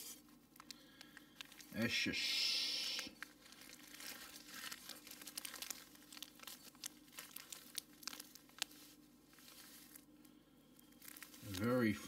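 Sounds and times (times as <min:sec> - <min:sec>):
plastic bag crinkling: 0:00.2 - 0:12.0.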